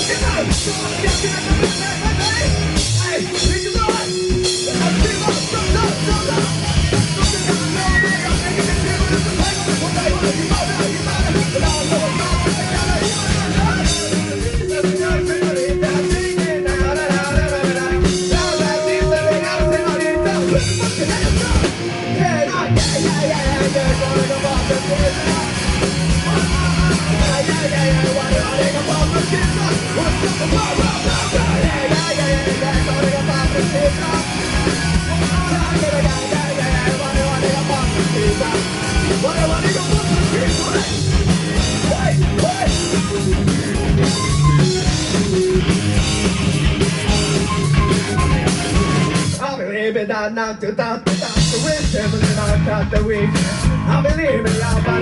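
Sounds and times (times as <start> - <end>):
distorted guitars: 0.0 - 55.0
drums: 0.0 - 55.0
rock vocals: 0.0 - 55.0.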